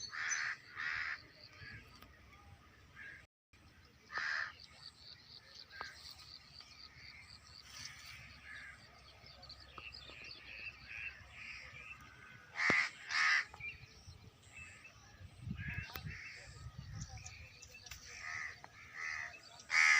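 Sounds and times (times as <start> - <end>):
birds calling: 0.0 - 19.9.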